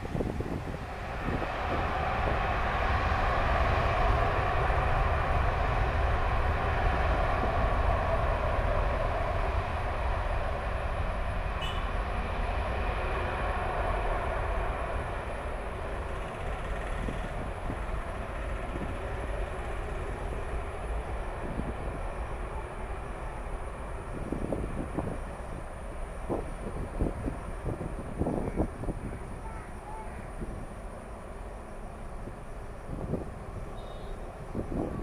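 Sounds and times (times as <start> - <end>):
jet engines at takeoff thrust: 0.0 - 35.0.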